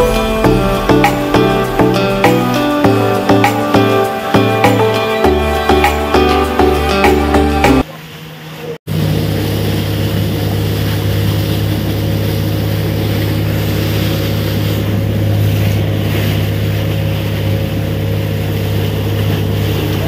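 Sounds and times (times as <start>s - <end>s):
motorboat engine droning: 0.0s - 20.0s
water rushing: 0.0s - 20.0s
wind: 0.0s - 20.0s.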